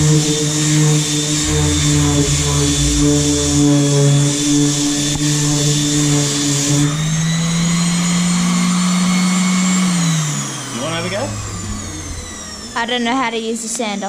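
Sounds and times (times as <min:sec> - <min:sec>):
electric sander motor: 0:00.0 - 0:13.8.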